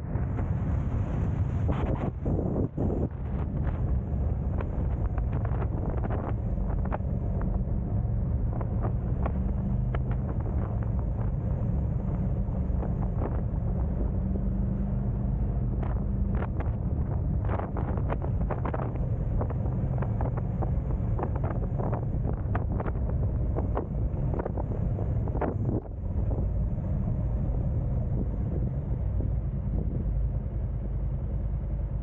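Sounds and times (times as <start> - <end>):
wind buffeting microphone: 0.0 - 30.9
car engine and road rumble: 0.0 - 32.0.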